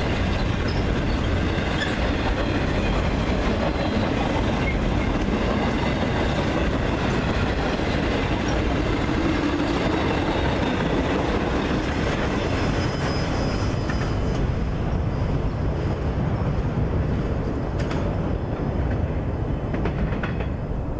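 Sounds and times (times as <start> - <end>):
freight train rolling on rails: 0.0 - 20.9.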